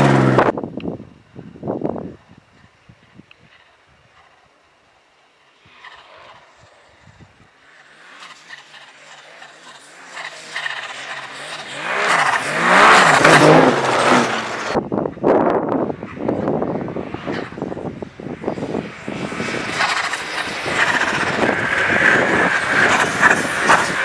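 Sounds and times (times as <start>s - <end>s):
snowmobile engine approaching: 0.0s - 0.6s, 2.2s - 24.0s.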